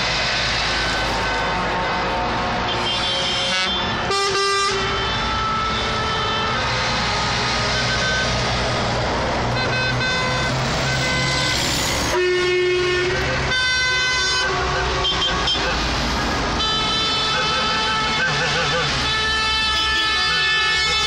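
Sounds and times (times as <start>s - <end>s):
truck horn: 0.0s - 21.0s
trucks driving past: 0.0s - 21.0s
tyre noise on road: 0.0s - 21.0s.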